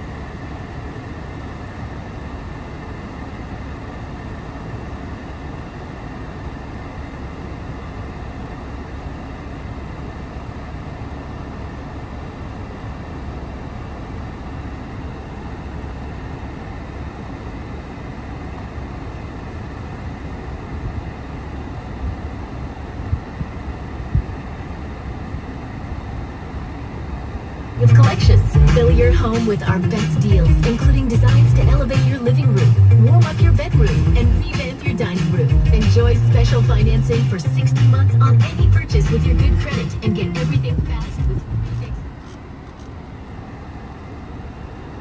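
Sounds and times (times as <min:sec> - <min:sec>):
car cabin low rumble: 0:00.0 - 0:45.0.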